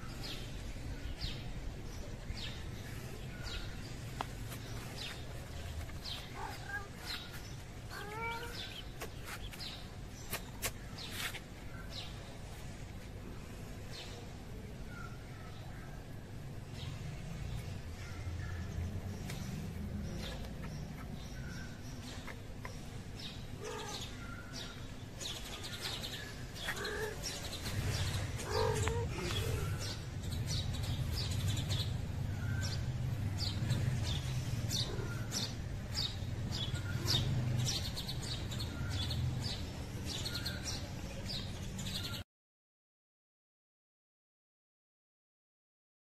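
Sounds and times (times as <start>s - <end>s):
small birds chirping: 0.0s - 42.2s.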